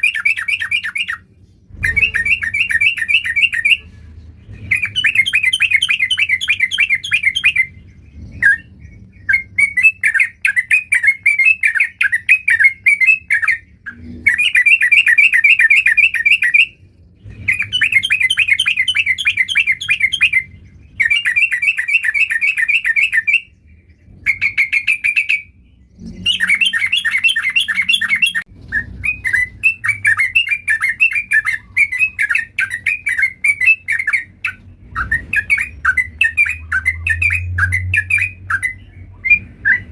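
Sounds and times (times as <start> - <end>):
bird singing chattering notes: 0.0 - 3.8, 4.4 - 39.9.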